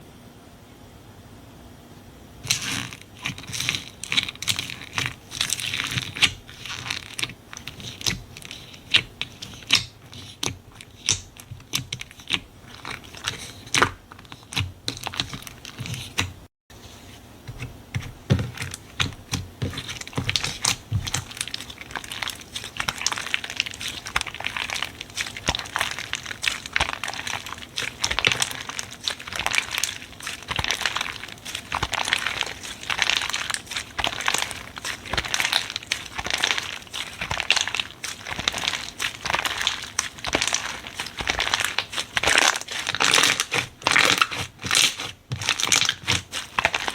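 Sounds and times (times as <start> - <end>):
slime clicking and crackling: 2.5 - 16.5, 18.3 - 46.9.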